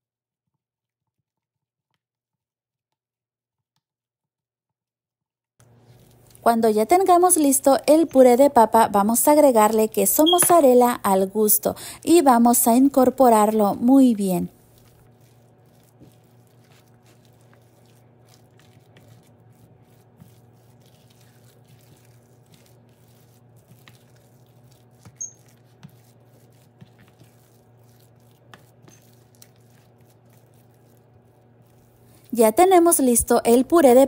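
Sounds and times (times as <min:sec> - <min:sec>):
low electrical hum: 0:05.6 - 0:34.0.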